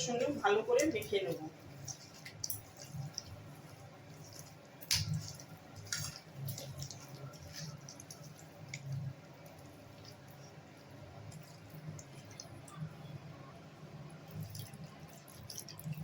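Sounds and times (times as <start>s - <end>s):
hands squelching wet marinade: 0.0s - 16.0s.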